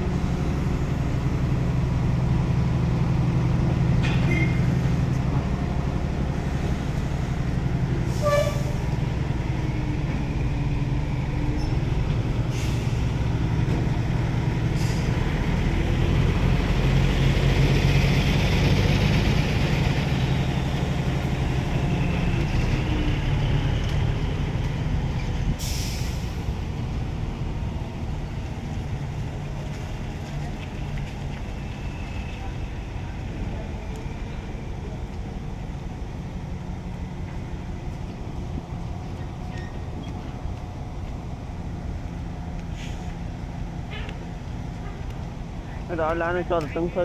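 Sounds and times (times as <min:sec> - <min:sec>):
truck diesel engine driving off: 0:00.0 - 0:47.0.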